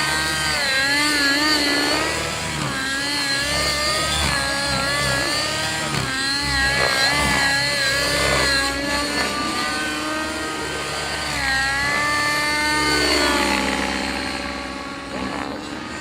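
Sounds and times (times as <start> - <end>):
model helicopter motor and rotor: 0.0 - 16.0.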